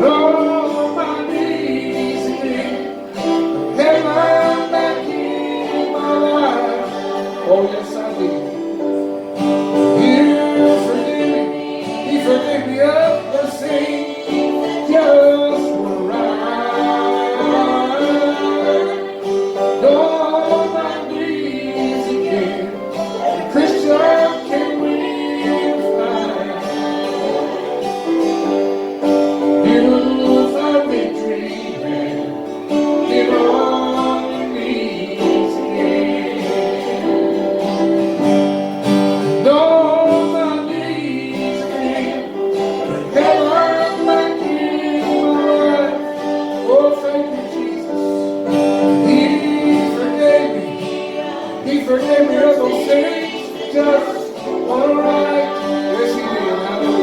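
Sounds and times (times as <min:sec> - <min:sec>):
guitar accompaniment: 0:00.0 - 0:57.0
person singing gospel song: 0:00.0 - 0:57.0.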